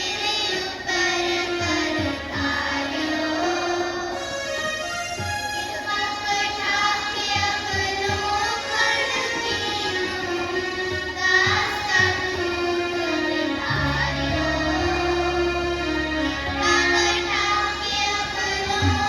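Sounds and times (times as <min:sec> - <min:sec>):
children singing: 0:00.0 - 0:19.0
musical accompaniment: 0:00.0 - 0:19.0.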